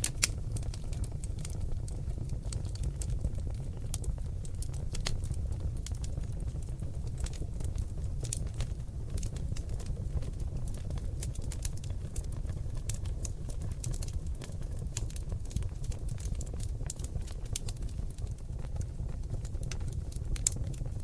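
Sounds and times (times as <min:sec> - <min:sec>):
log fire crackling and popping: 0:00.0 - 0:21.0
low rumble of flames: 0:00.0 - 0:21.0.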